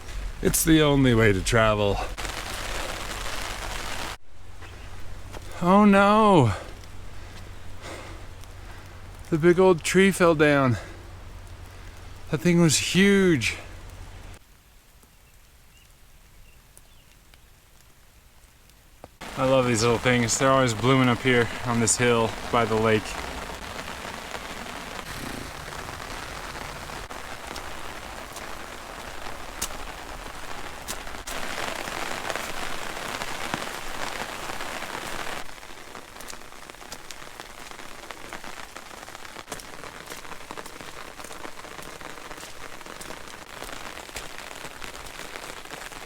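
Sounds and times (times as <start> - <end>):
rain pattering on an umbrella: 0.0 - 46.0.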